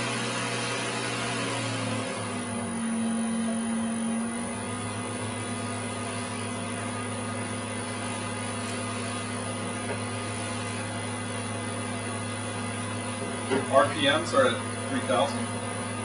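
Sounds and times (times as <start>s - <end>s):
spa pump humming: 0.0s - 16.0s.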